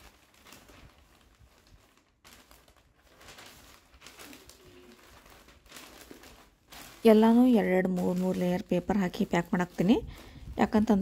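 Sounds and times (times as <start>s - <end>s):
packing paper rustling: 0.0s - 11.0s.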